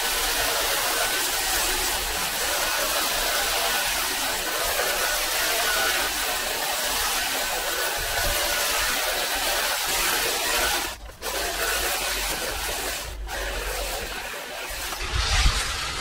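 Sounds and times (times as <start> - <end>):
hedge trimmer rasping: 0.0 - 15.0.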